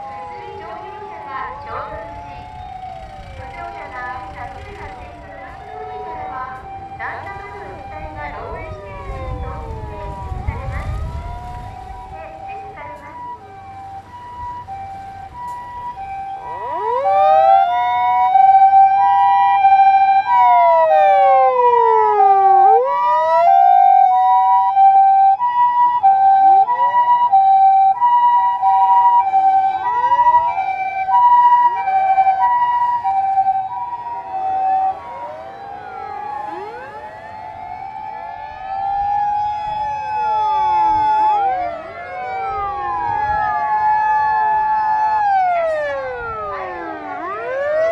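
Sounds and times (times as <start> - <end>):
two-tone hi-lo siren: 0.0 - 47.9
wailing siren: 0.0 - 47.9.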